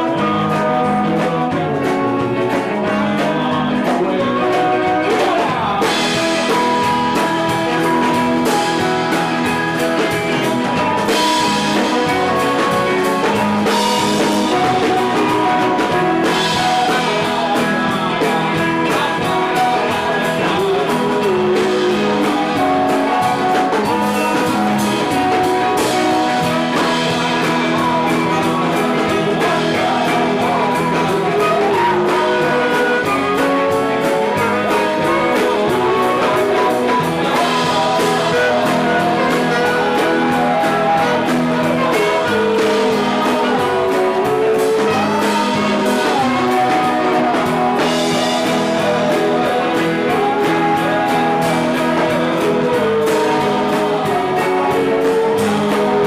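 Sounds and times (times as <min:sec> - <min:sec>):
drums: 0:00.0 - 0:56.0
guitar: 0:00.0 - 0:56.0
person singing: 0:00.0 - 0:56.0.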